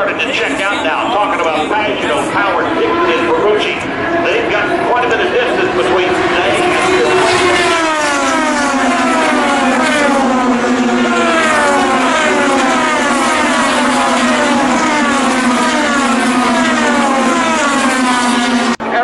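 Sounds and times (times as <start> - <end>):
race cars passing by: 0.0 - 19.0.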